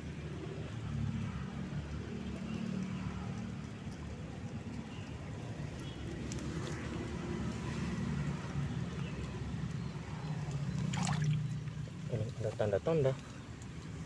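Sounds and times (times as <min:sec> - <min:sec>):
traffic engine hum: 0:00.0 - 0:14.0.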